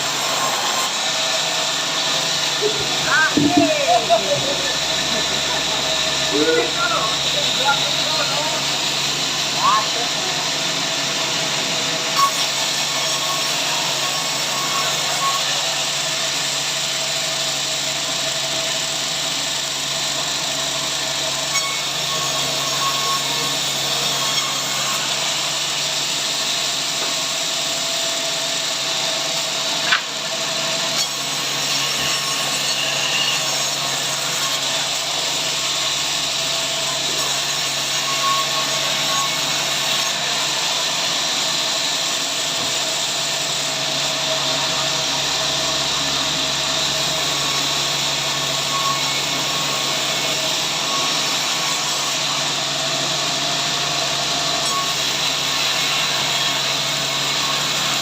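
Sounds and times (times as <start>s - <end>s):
power saw cutting log: 0.0s - 58.0s.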